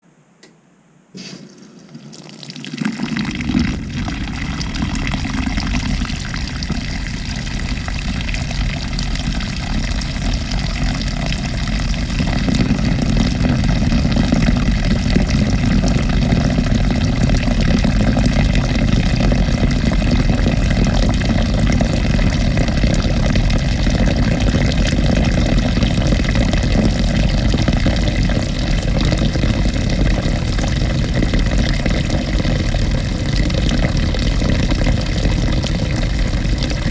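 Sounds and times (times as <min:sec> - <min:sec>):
water running into washer tub: 0:01.2 - 0:36.9.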